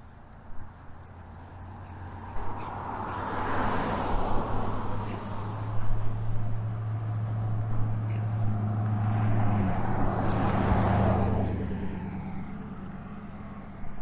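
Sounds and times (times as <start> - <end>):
car engine humming: 0.0 - 14.0
passing car: 0.0 - 14.0.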